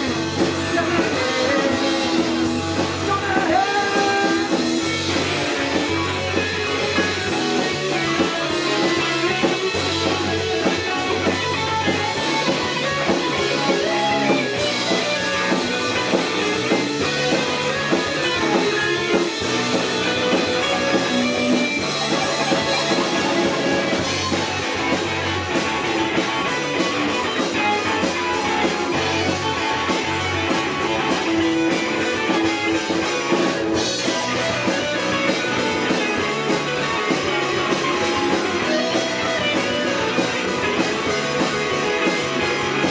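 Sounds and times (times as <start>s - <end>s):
drum kit: 0.0s - 42.9s
electric guitar: 0.0s - 42.9s.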